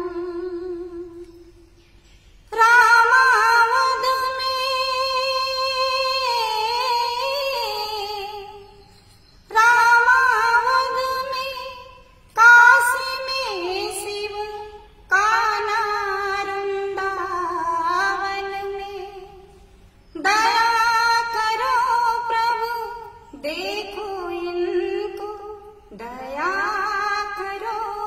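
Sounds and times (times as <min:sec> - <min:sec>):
woman singing without words: 0:02.5 - 0:08.6, 0:09.5 - 0:19.4, 0:20.2 - 0:28.0.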